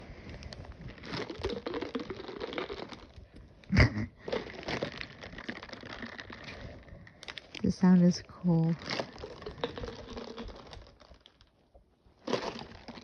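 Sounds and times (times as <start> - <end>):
ice rattling inside plastic bottle: 0.0 - 13.0.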